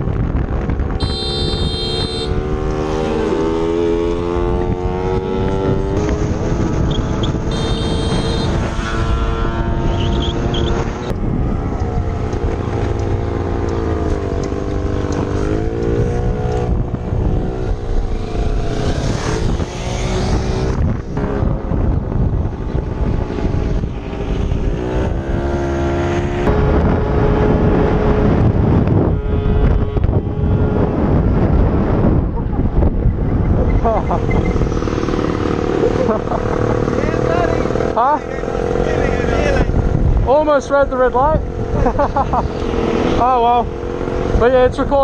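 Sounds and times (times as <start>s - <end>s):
motorcycle engine revving: 0.4s - 45.0s.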